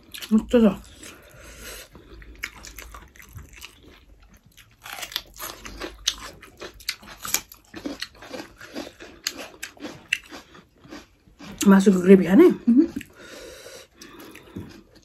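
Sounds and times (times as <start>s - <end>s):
chewing: 0.0s - 11.7s, 12.9s - 15.0s.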